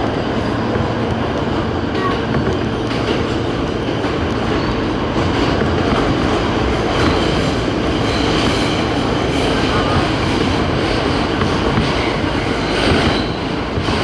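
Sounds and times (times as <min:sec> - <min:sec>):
subway train wheels rumbling: 0:00.0 - 0:14.0.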